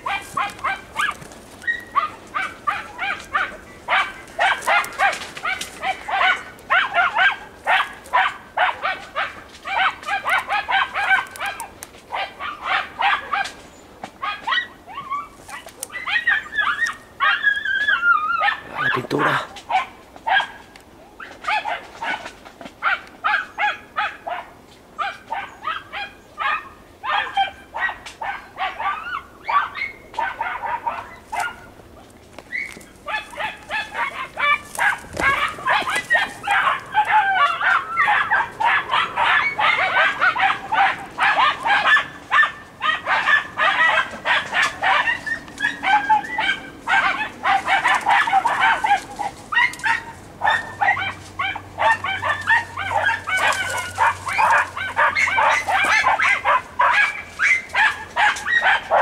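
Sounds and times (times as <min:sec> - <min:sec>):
hounds yelping and barking: 0:00.0 - 0:59.0.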